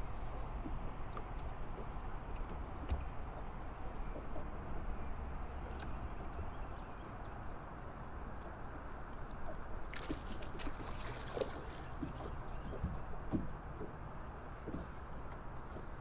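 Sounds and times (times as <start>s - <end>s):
waves lapping against boat hull: 0.0s - 16.0s.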